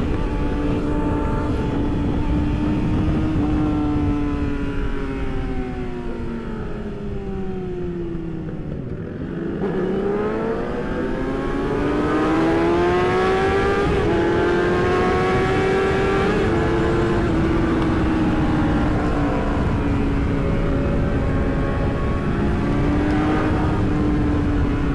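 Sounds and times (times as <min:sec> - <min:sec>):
motorcycle engine revving: 0:00.0 - 0:24.9
wind rumble: 0:00.0 - 0:24.9.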